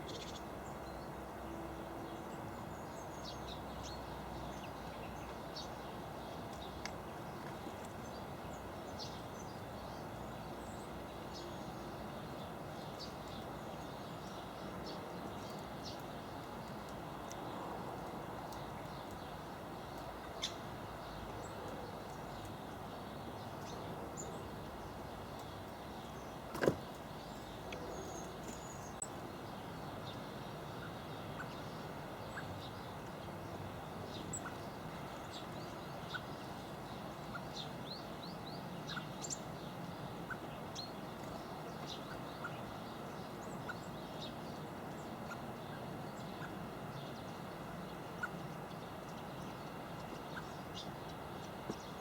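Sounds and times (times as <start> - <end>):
small birds chirping: 0.0 - 1.1, 2.1 - 52.0
steady background hiss: 0.0 - 52.0.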